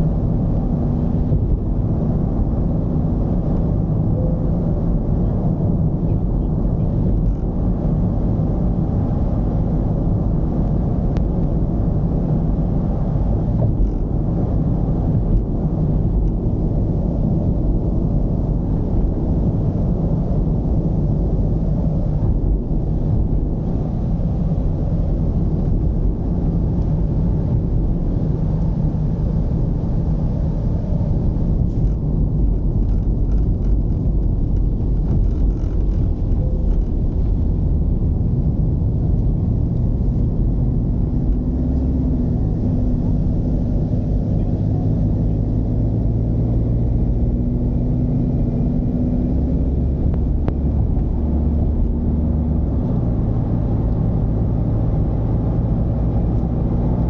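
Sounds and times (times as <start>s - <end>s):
road rumble: 0.0s - 57.0s
van diesel engine running: 0.0s - 57.0s.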